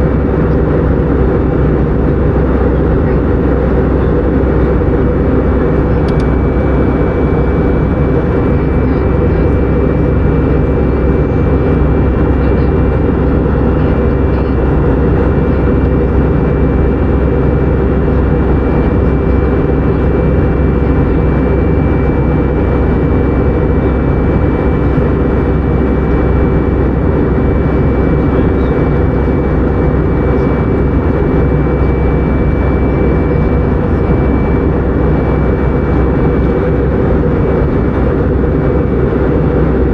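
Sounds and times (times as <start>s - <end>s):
jet airliner engine drone: 0.0s - 39.9s
thin high whine: 3.8s - 39.9s.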